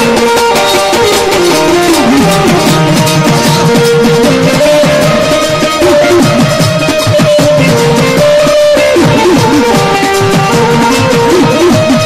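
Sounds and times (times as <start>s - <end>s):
hand drum with swooping bass: 0.0s - 12.0s
harmonium melody: 0.0s - 12.0s.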